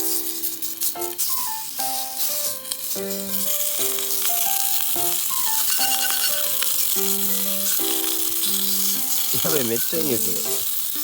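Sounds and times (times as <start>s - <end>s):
background music with held notes: 0.0s - 11.0s
meat sizzling in a pan: 0.0s - 11.0s.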